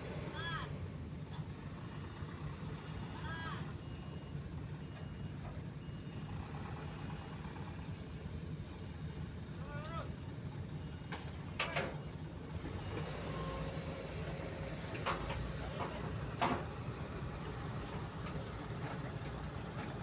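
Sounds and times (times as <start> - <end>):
excavator diesel engine rumbling: 0.0 - 20.0.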